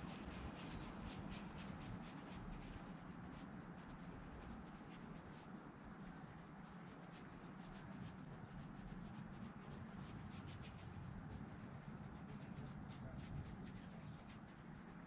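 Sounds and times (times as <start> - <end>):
paintbrush strokes on canvas: 0.0 - 15.0.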